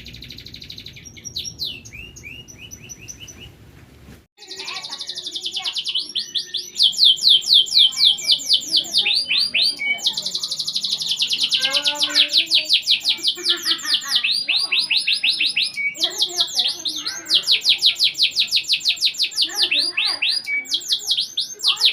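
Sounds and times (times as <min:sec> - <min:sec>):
canary singing trills: 0:00.0 - 0:03.6, 0:04.4 - 0:21.9.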